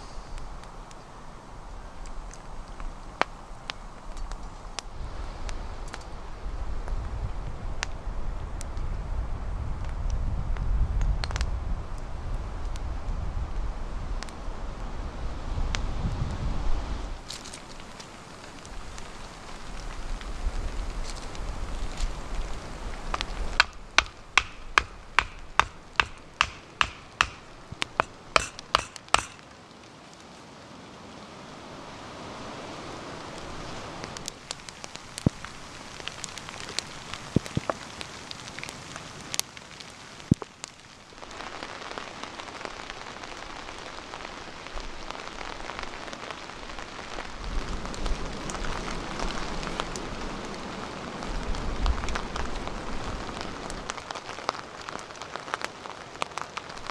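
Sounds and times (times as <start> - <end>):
campfire crackling: 0.0 - 56.9.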